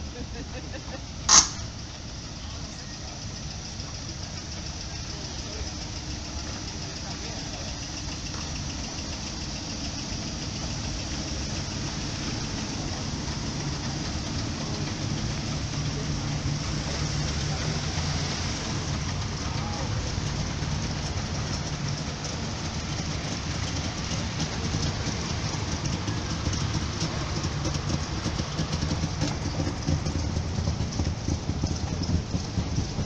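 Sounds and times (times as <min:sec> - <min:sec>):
car and motorcycle engines idling: 0:00.0 - 0:33.0.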